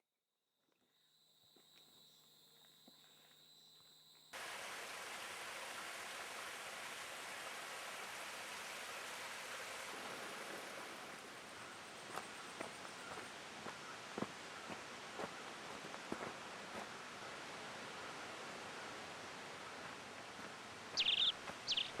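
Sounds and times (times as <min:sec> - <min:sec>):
rushing water: 0:04.4 - 0:22.0.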